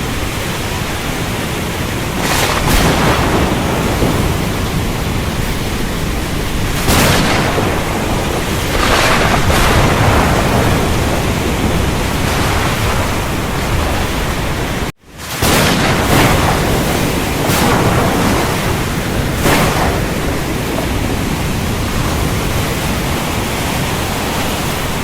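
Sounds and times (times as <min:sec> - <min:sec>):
heavy rain hissing: 0:00.0 - 0:25.0
low rumble of thunder: 0:02.0 - 0:24.2.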